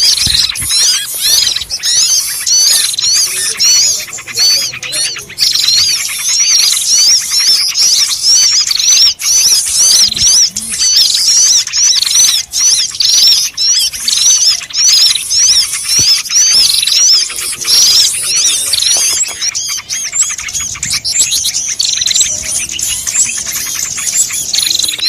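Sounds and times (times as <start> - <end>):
small birds chirping and whistling: 0.0 - 25.0.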